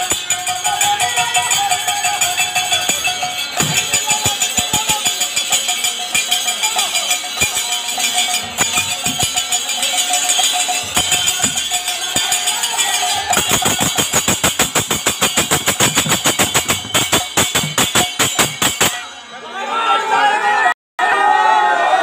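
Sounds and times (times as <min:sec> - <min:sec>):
drum beat: 0:00.0 - 0:19.1
hand cymbals clashing: 0:00.0 - 0:19.3.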